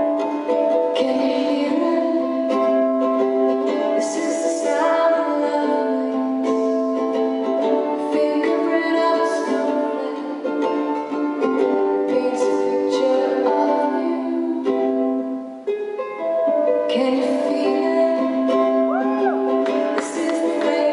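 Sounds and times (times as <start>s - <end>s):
woman singing: 0.0s - 15.4s, 16.7s - 20.9s
ukulele strumming: 0.0s - 20.9s.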